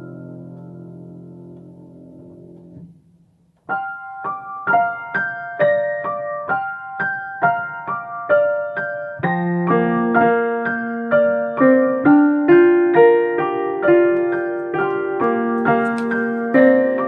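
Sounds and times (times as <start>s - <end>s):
piano duet: 0.0s - 17.0s.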